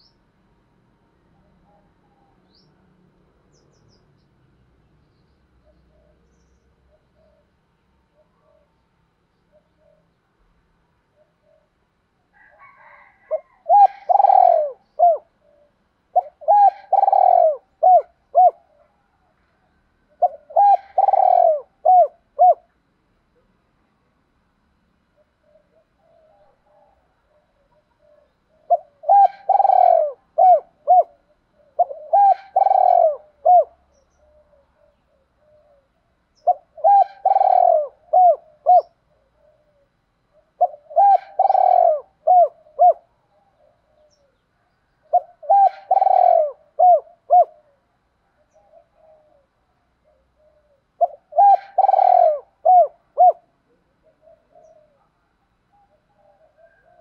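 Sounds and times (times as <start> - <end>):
soft quiet dove calls: 0.0 - 57.0
dove cooing: 1.0 - 2.9, 5.6 - 8.8, 9.5 - 23.6, 25.1 - 57.0.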